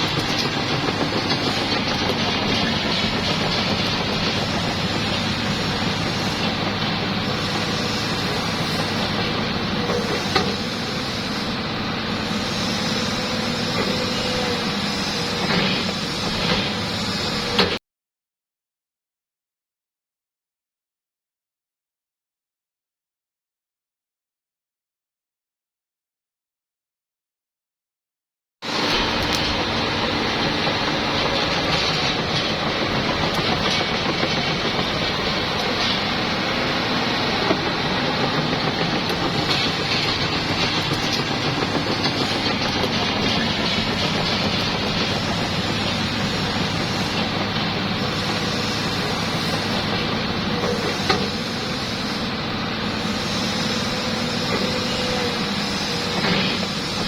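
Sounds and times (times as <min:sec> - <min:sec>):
excavator diesel engine running: 0:00.0 - 0:17.8, 0:28.7 - 0:57.0.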